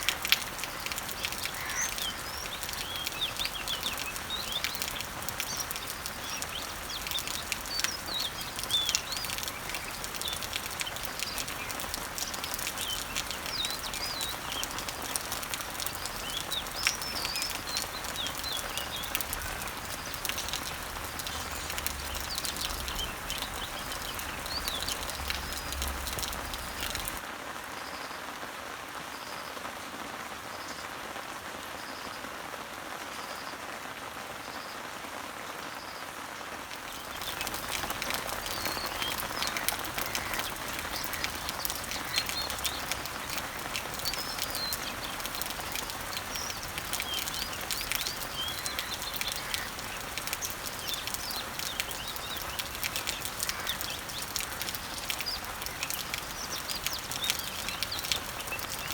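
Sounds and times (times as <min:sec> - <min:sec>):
birds chirping: 0:00.0 - 0:27.2, 0:36.7 - 0:58.9
rain falling on leaves: 0:00.0 - 0:58.9.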